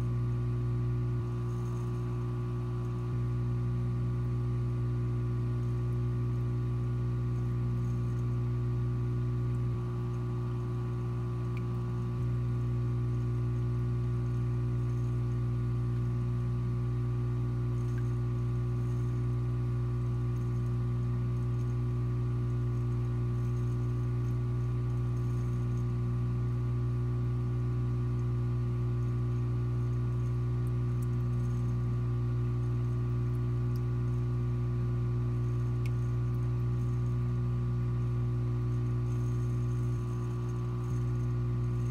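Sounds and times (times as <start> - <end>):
aquarium equipment humming: 0.0 - 41.9.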